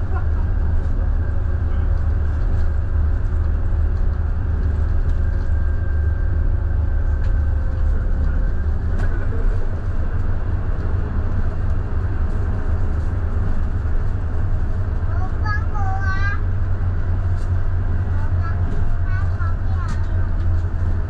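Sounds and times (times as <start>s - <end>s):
bus engine drone: 0.0s - 21.0s
road noise: 0.0s - 21.0s.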